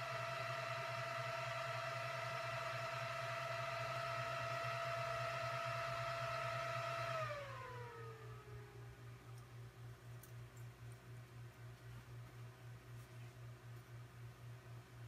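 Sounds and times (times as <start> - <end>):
server cooling fans whining: 0.0 - 15.0.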